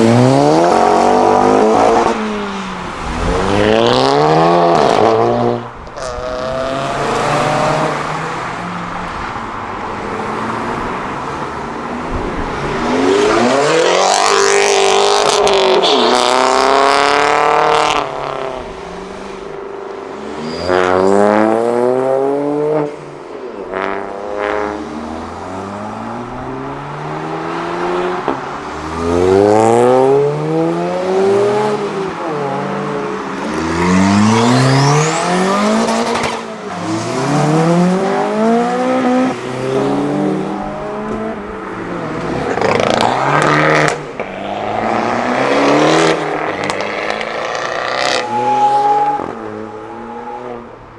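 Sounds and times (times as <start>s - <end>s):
cars accelerating past: 0.0s - 50.9s.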